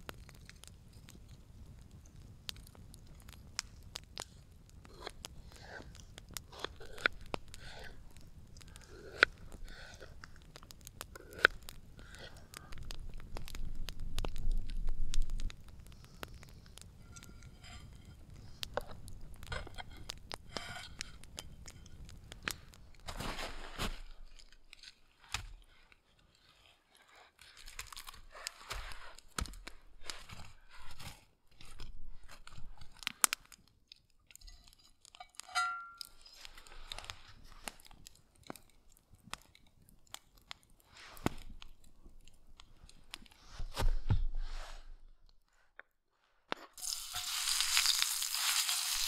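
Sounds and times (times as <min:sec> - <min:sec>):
crunching and rustling of food: 0:00.0 - 0:44.9, 0:46.8 - 0:49.0.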